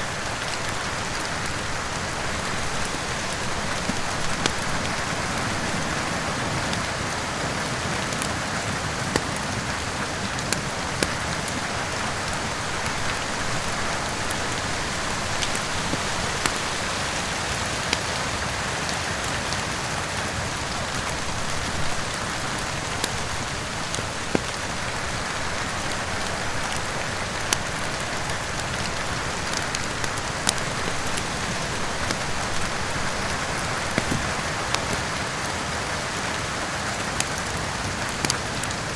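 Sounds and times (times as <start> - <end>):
heavy rain: 0.0 - 38.9
wood fire crackling: 0.0 - 38.9.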